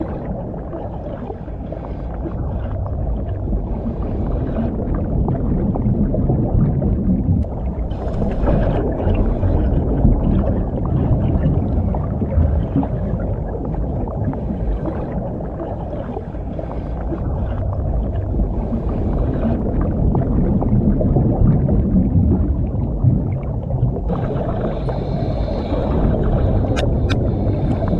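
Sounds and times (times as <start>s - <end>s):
exhaled bubbles hissing: 0.0s - 27.9s
underwater low rumble: 0.0s - 27.9s.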